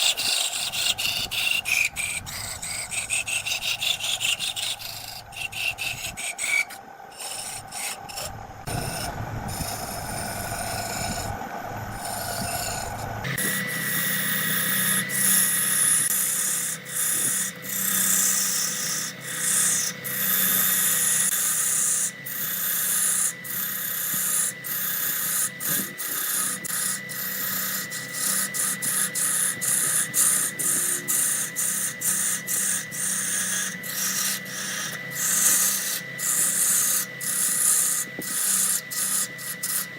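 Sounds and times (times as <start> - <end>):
lathe tool scraping wood: 0.0 - 39.9
steady machine hum: 0.0 - 39.9.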